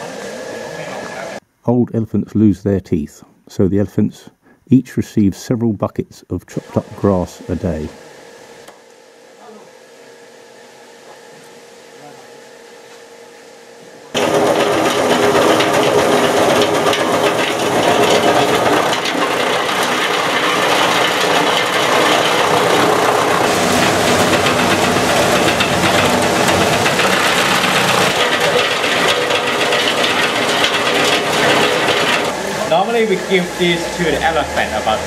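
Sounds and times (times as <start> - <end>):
chaff cutter machine hum: 0.0 - 1.4, 6.5 - 35.0.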